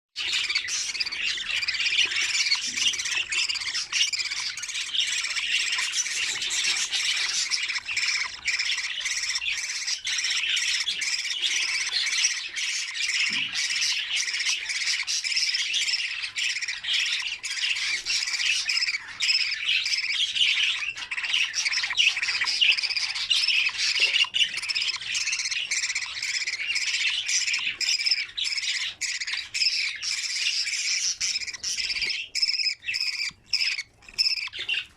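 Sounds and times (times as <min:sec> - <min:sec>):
budgerigars chattering and squawking: 0:00.2 - 0:34.9.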